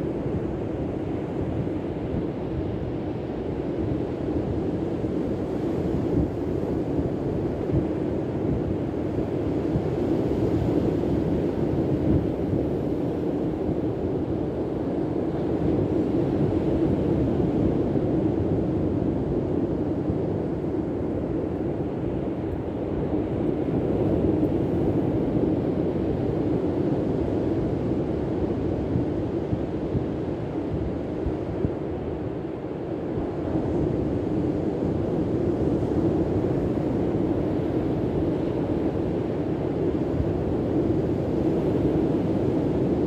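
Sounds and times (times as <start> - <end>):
wind buffeting the microphone: 0.0 - 43.0.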